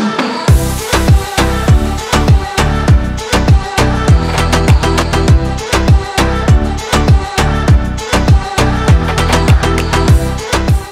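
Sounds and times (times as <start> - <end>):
dance music with steady beat: 0.0 - 10.9.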